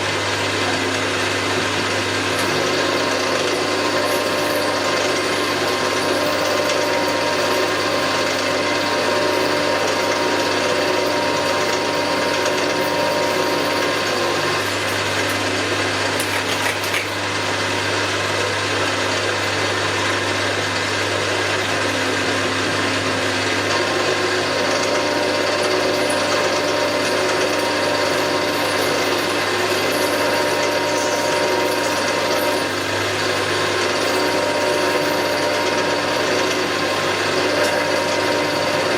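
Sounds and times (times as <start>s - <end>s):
metal cutting noise: 0.0s - 38.9s
milling machine motor hum: 0.0s - 38.9s.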